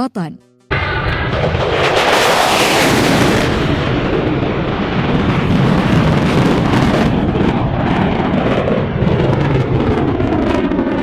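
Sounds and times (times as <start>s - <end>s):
fighter jet flying past: 0.7s - 11.0s.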